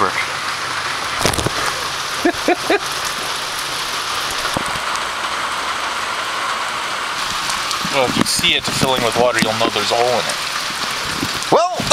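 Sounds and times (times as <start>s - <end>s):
rain hissing on a bag: 0.0s - 11.9s.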